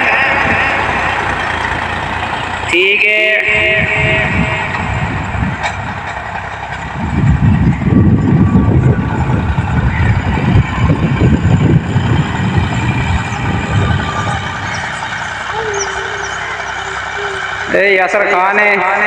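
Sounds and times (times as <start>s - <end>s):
tractor engine rumbling: 0.0s - 19.0s.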